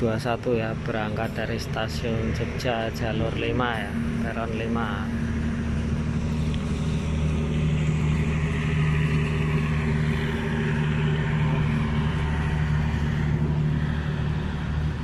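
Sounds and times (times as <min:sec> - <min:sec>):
low diesel drone: 0:00.0 - 0:15.0.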